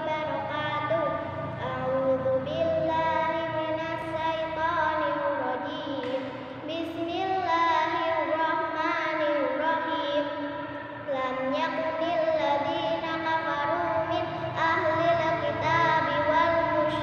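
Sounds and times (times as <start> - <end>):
girl singing chant-like melody: 0.0 - 17.0.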